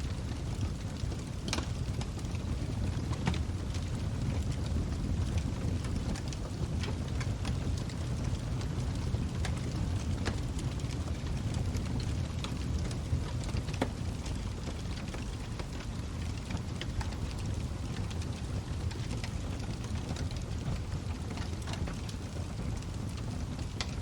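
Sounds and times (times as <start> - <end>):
low rumble of flames: 0.0 - 24.0
wood crackling and popping: 0.0 - 24.0.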